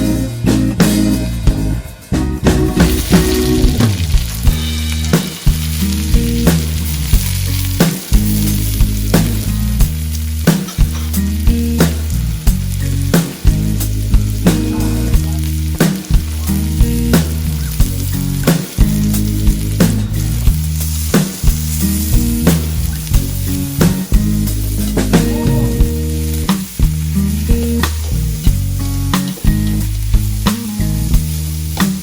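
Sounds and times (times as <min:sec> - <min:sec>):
background music with beat and bass: 0:00.0 - 0:32.0
food sizzling in a pan: 0:02.6 - 0:32.0.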